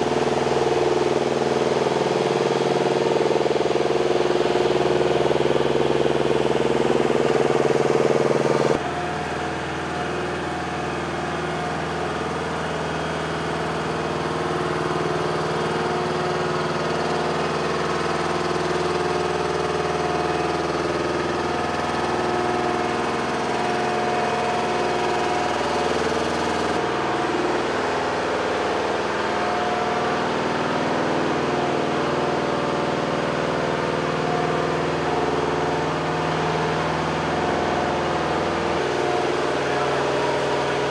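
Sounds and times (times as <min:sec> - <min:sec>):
lift truck engine idling: 0:00.0 - 0:40.9.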